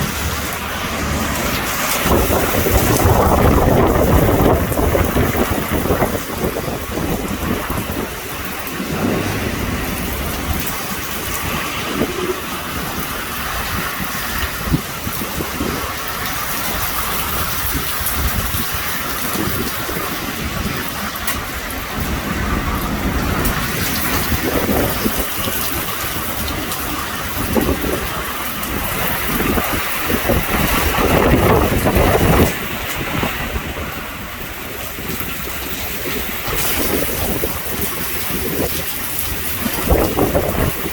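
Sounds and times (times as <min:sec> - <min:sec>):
heavy rain pouring: 0:00.0 - 0:40.9
thunder rumbling: 0:00.0 - 0:40.9.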